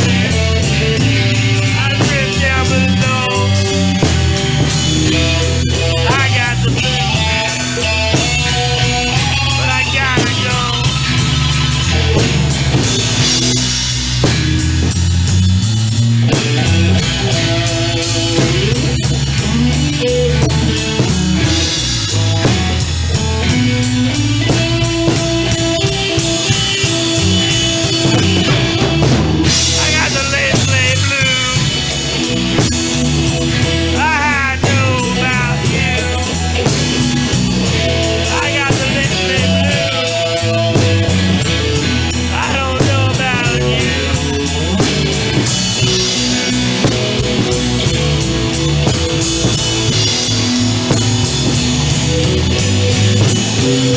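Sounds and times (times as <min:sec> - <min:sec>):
bass guitar: 0:00.0 - 0:53.9
drum kit: 0:00.0 - 0:53.9
electric guitars: 0:00.0 - 0:53.9.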